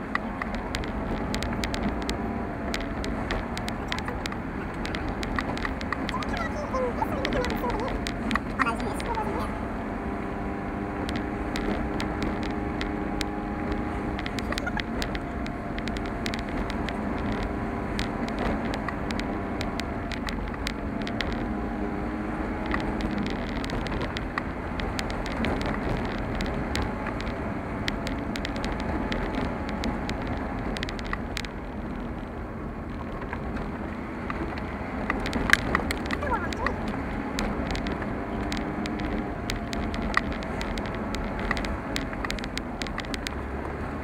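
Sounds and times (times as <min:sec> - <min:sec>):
car engine running: 0:00.0 - 0:44.0
road noise: 0:00.0 - 0:44.0
sharp clicks and rattles: 0:00.0 - 0:44.0.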